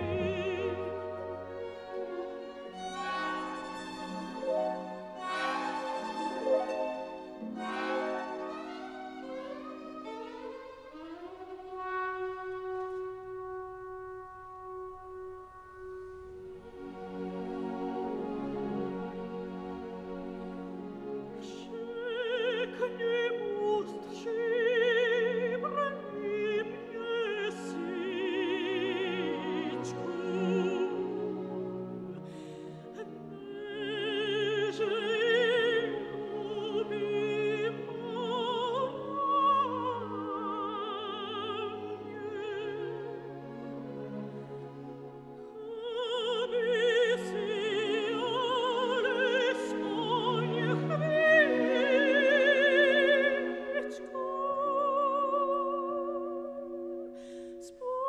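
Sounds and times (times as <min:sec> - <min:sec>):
operatic singing with vibrato: 0:00.0 - 0:58.0
orchestral accompaniment: 0:00.0 - 0:58.0.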